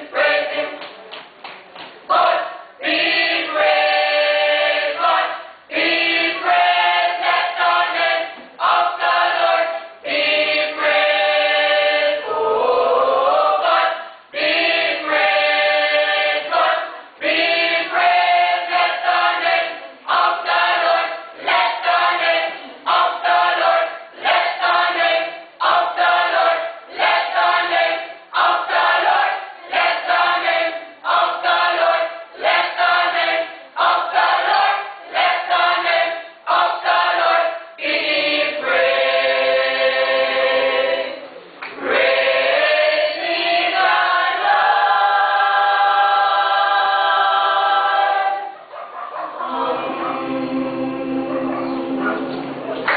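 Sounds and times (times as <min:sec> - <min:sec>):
choir singing: 0:00.0 - 0:00.9, 0:02.1 - 0:52.9.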